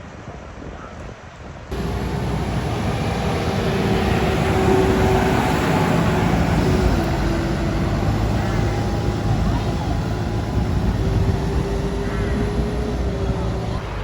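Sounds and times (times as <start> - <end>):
tractor engines running: 1.7 - 14.0.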